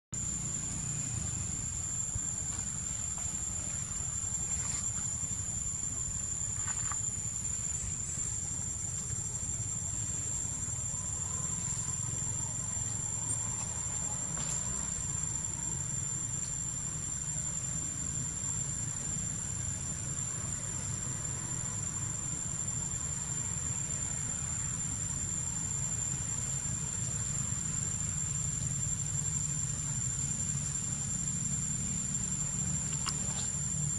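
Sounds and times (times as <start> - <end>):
high-pitched insect chorus: 0.2 - 33.9
low steady rumble: 0.2 - 33.9.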